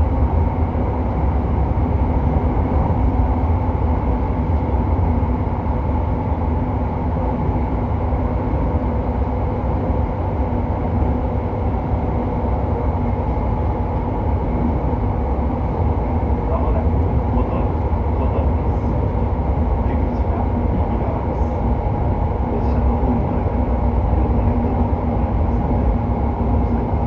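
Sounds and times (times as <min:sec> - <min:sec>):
rail and wheel noise: 0:00.0 - 0:27.0
train running roar: 0:00.0 - 0:27.0.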